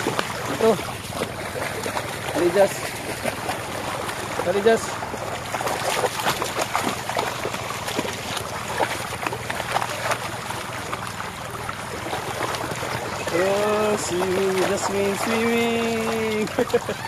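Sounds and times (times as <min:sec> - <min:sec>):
dogs splashing in water: 0:00.0 - 0:17.0
river water rushing: 0:00.0 - 0:17.0.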